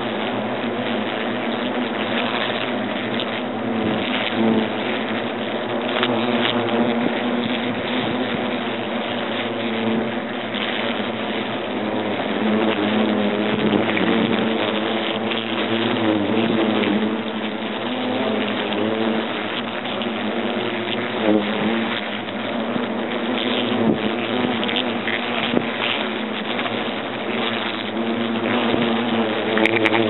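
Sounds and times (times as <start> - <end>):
hornets buzzing: 0.0 - 30.0.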